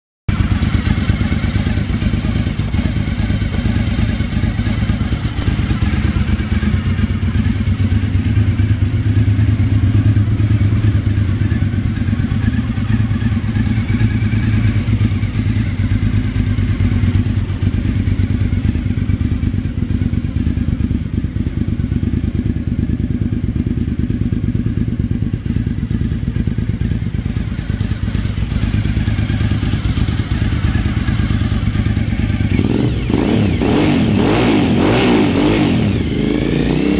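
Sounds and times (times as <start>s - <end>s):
motorcycle engine idling: 0.3s - 36.9s.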